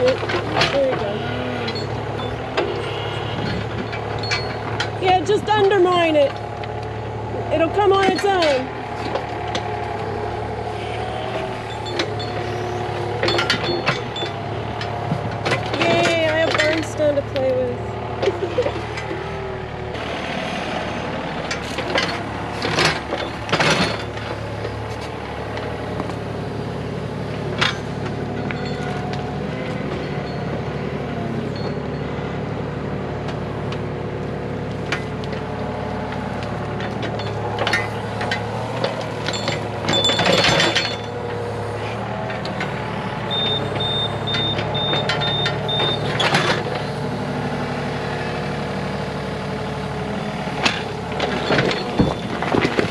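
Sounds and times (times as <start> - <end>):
heavy machine engine running: 0.0 - 52.9.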